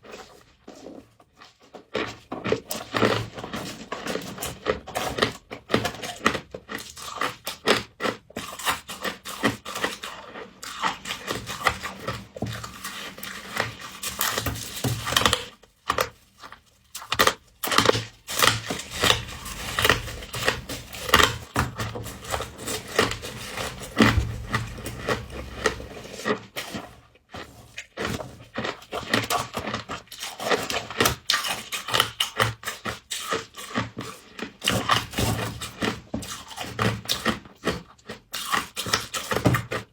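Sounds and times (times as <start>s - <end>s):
frost crunching and chewing: 0.0s - 39.9s.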